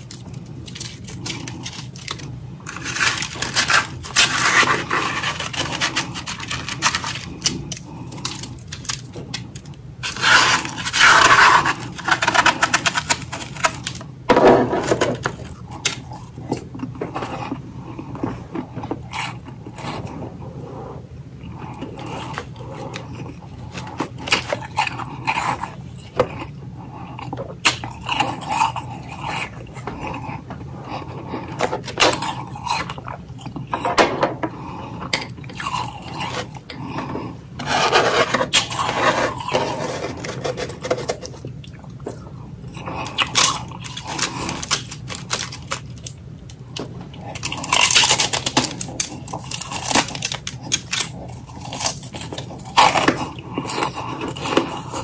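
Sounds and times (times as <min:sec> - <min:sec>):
chewing and crunching ice: 0:00.0 - 0:20.3, 0:21.4 - 0:55.0.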